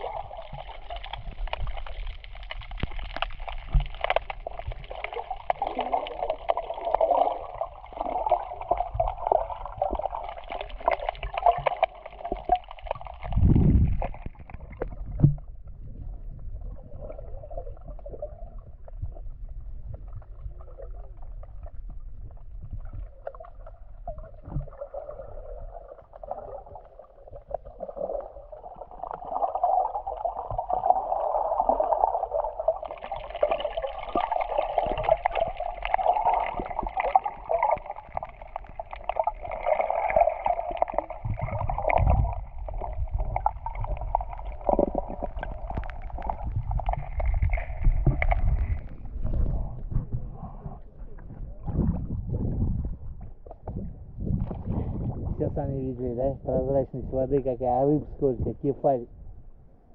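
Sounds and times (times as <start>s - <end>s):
muffled underwater sloshing: 0.0s - 59.9s.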